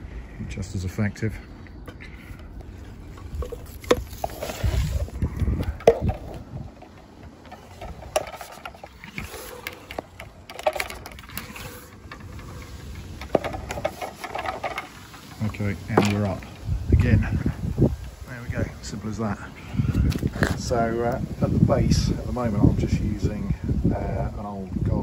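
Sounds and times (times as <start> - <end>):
microphone handling rumble: 0.0 - 19.0, 19.6 - 25.0.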